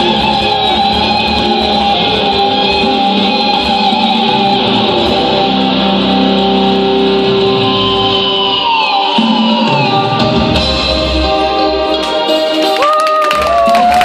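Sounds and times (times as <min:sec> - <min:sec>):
electric guitar sustained notes: 0:00.0 - 0:14.0
instrumental rock music: 0:00.0 - 0:14.0.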